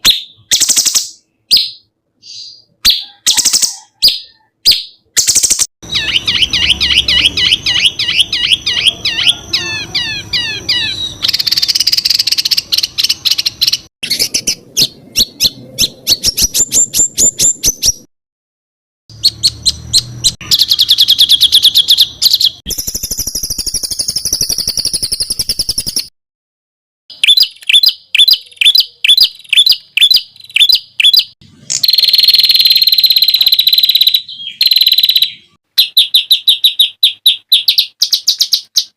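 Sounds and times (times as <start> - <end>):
songbird trilling: 0.2 - 18.0, 19.1 - 25.8, 27.1 - 38.9.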